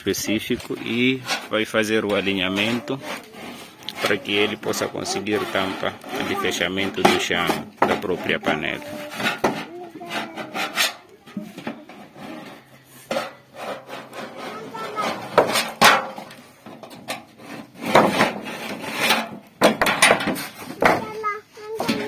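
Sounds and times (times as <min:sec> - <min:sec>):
scraping sheet metal by hand: 0:00.0 - 0:22.0.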